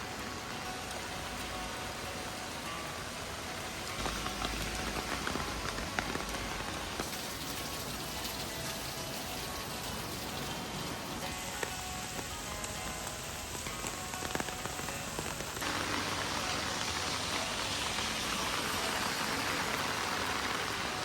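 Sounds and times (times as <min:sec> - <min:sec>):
heavy rain falling: 0:00.0 - 0:21.0
water drips tapping: 0:00.0 - 0:21.0.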